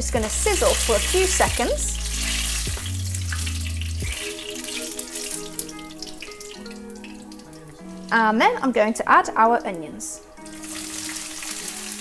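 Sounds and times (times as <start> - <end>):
seeds sizzling in hot oil: 0.0 - 8.4, 10.3 - 12.0.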